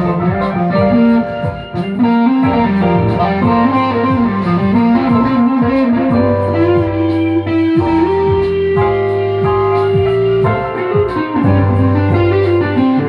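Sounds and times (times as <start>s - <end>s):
melody over bass line: 0.0s - 13.0s.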